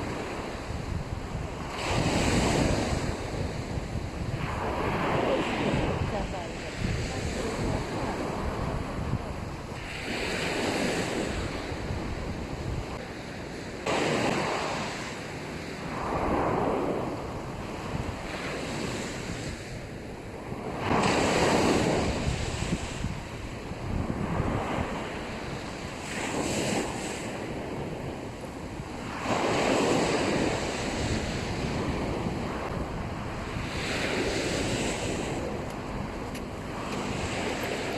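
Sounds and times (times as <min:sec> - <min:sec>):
waves washing on sandy beach: 0:00.0 - 0:37.9
wind buffeting microphone: 0:00.0 - 0:37.9.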